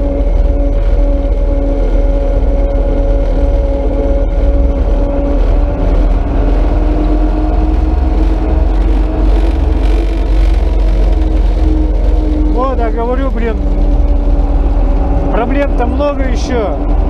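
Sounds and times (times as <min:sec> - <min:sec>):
diesel engine rumbling under load: 0:00.0 - 0:17.0.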